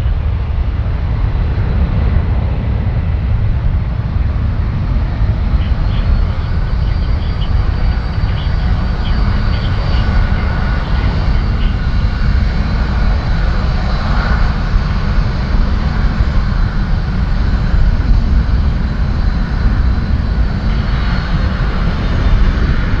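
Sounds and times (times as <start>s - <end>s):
jet engines rumbling at takeoff: 0.0s - 23.0s.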